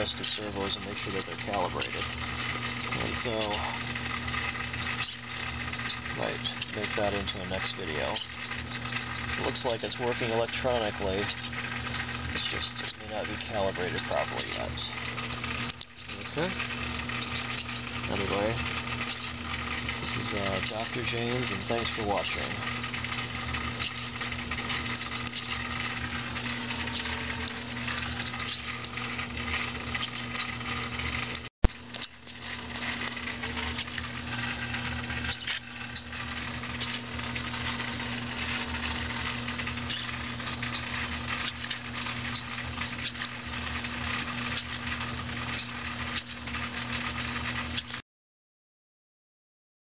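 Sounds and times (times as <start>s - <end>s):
servos buzzing and humming: 0.0s - 48.0s.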